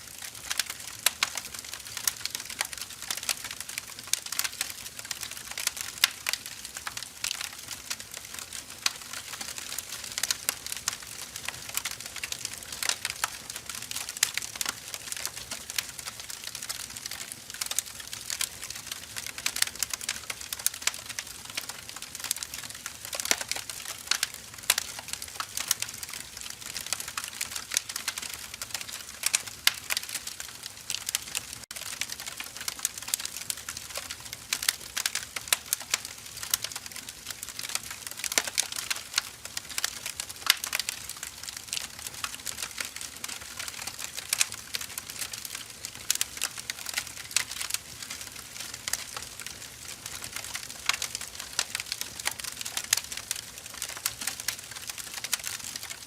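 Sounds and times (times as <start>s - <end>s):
soft steady hiss: 0.0s - 49.5s
wood fire crackling: 0.0s - 56.0s.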